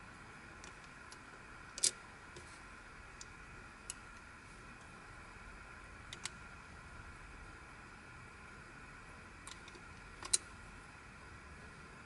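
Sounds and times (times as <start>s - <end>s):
faint room tone hiss: 0.0s - 12.0s.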